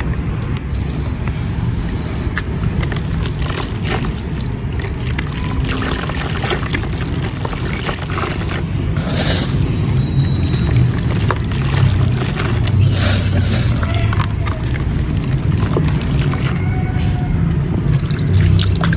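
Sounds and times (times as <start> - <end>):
gritty crackles and wet sloshes: 0.0 - 18.9.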